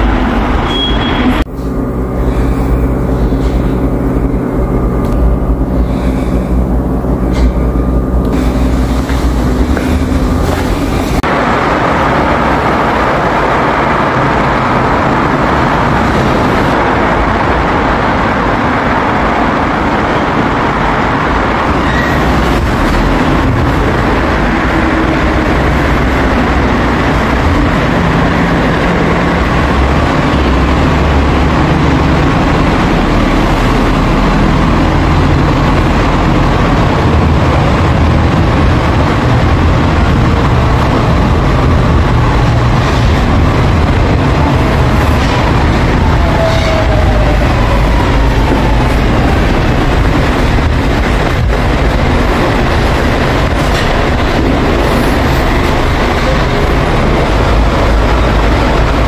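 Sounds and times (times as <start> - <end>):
steady humming tones: 0.0 - 59.0
train rumbling on track: 0.0 - 59.0.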